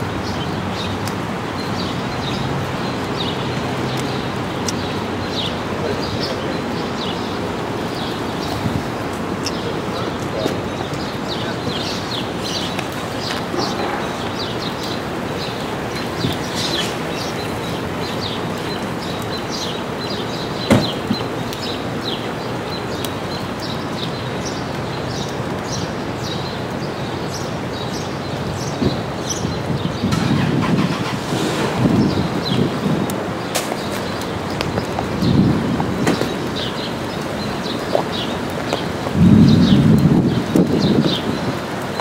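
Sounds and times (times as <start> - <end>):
birds chirping: 0.0 - 42.0
steady outdoor noise: 0.0 - 42.0.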